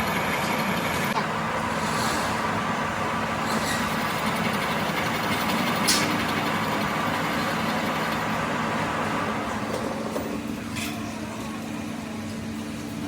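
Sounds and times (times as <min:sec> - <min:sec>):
machine running: 0:00.0 - 0:13.0.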